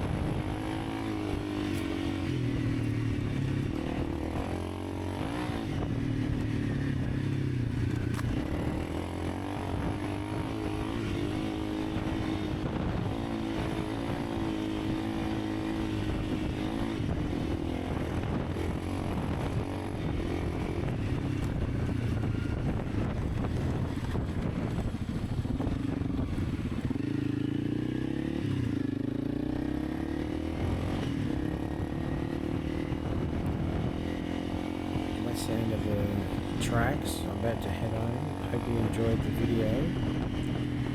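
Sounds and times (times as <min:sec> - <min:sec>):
motorbike engine running: 0:00.0 - 0:40.9.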